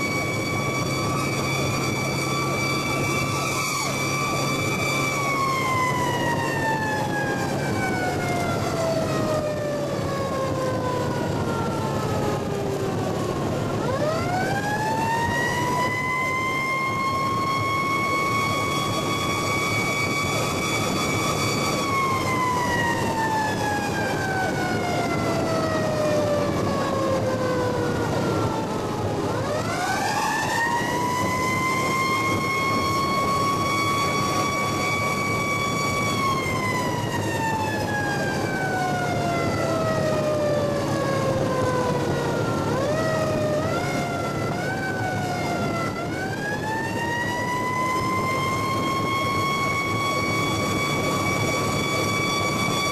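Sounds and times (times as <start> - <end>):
engine and road noise: 0.0 - 52.9
mechanical siren wailing: 0.0 - 52.9.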